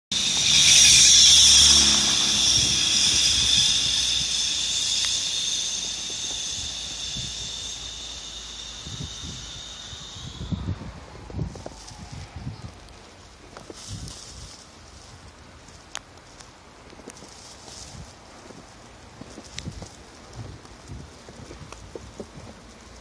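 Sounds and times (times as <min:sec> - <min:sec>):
car engine rumble: 0:00.1 - 0:23.0
tyres hissing on slush: 0:00.1 - 0:23.0.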